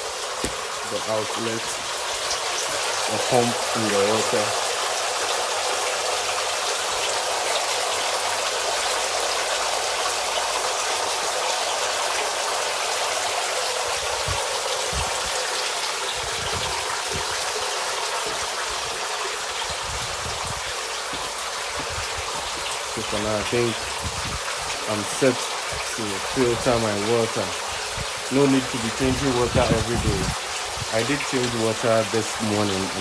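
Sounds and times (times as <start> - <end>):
water gushing into a pond: 0.0 - 33.0.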